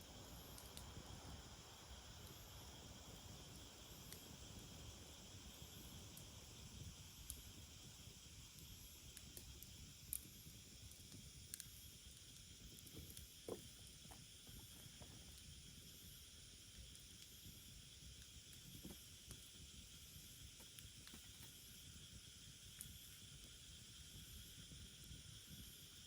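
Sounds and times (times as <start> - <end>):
wood fire crackling and popping: 0.2 - 24.8.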